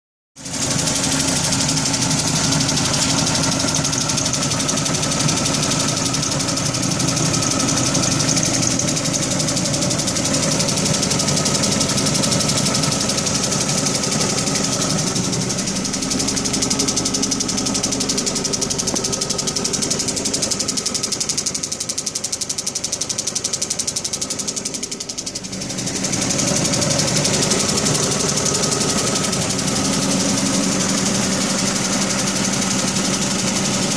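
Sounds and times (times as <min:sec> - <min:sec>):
car engine running with ticking: 0:00.4 - 0:33.9.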